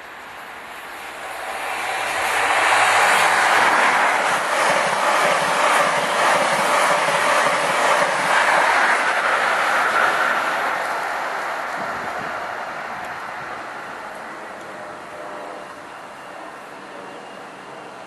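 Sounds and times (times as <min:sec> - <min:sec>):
freight train rolling past: 0:00.0 - 0:18.0.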